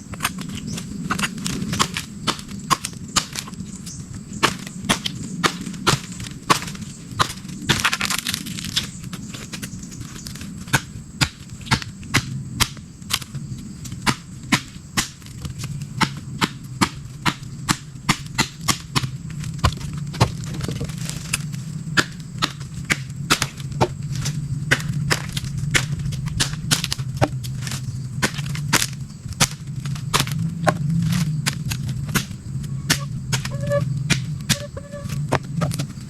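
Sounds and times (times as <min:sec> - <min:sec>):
sharp irregular cracks: 0:00.0 - 0:36.0.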